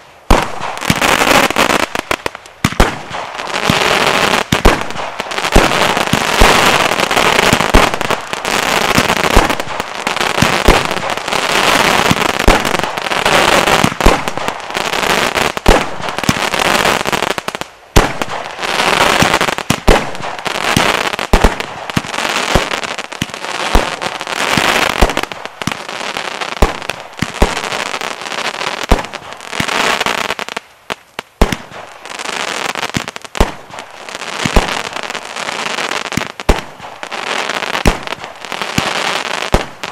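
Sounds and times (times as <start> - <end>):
firework hissing crackle: 0.0 - 39.9
firework shots and bursts: 0.0 - 39.9.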